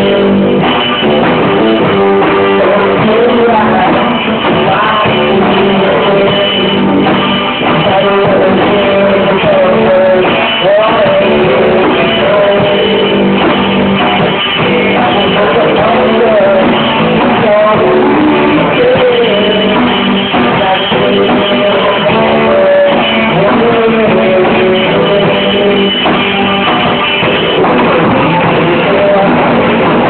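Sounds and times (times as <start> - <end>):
bass guitar: 0.0 - 30.0
drums: 0.0 - 30.0
electric guitar: 0.0 - 30.0
man singing into microphone: 0.0 - 30.0.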